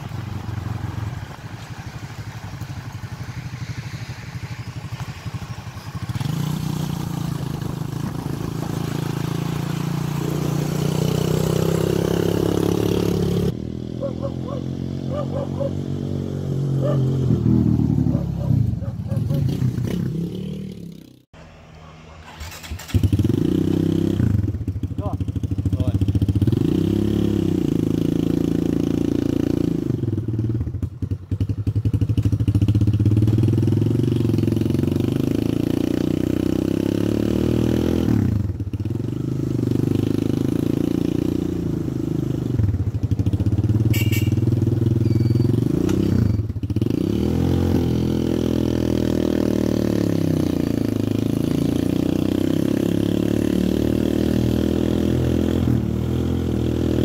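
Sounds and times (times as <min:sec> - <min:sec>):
quad bike engine revving: 0:04.8 - 0:21.3, 0:22.1 - 0:57.0.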